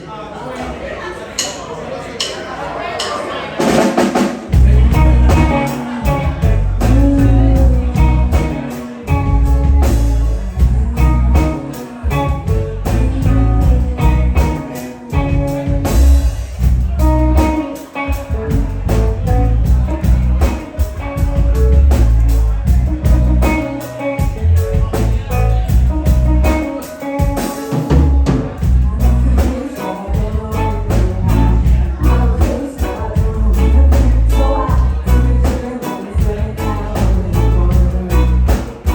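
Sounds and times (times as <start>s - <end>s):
live rock band playing: 3.6s - 38.9s.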